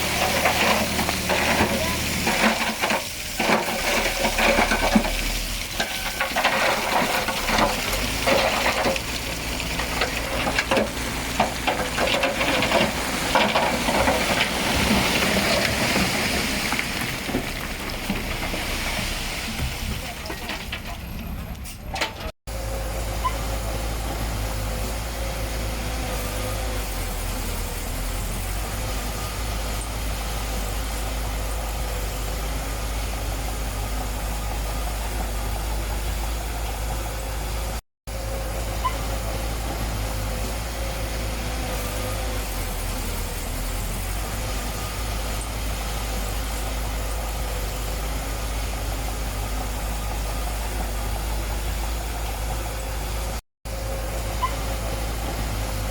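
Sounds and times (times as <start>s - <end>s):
diesel engine rumbling: 0.0s - 55.9s.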